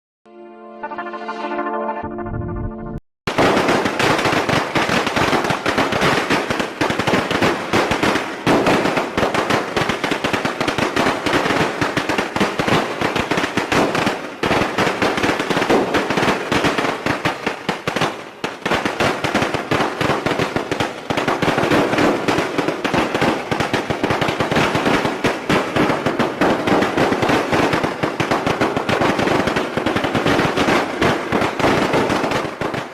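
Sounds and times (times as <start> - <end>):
fireworks bangs and crackles: 3.3 - 32.9.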